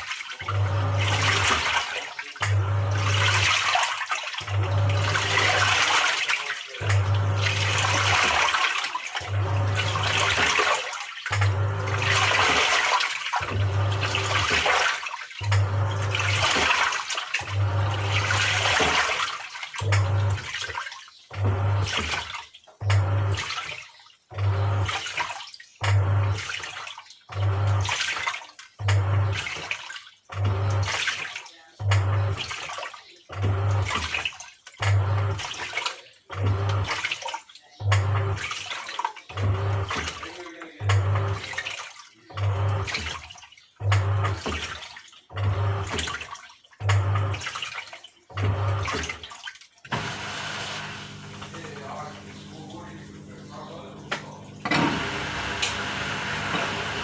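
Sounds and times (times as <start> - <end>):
washing machine motor humming: 0.0 - 57.0
water swishing: 0.0 - 57.0.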